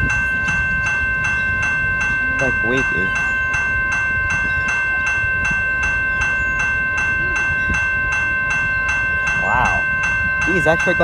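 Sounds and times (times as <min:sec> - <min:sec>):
freight train rumbling past: 0:00.0 - 0:11.0
railroad crossing bell ringing: 0:00.0 - 0:11.0.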